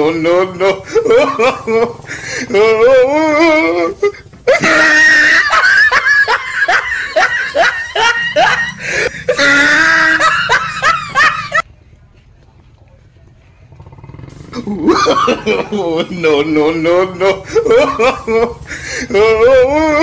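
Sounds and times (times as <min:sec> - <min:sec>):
person laughing loudly: 0:00.0 - 0:11.6, 0:14.6 - 0:20.0.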